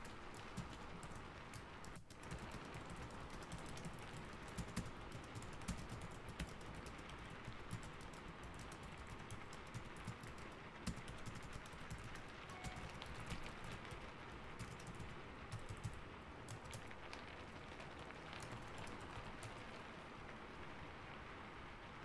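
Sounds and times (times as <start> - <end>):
keyboard typing: 0.0 - 17.0, 18.4 - 19.8
rain hiss: 0.0 - 22.0.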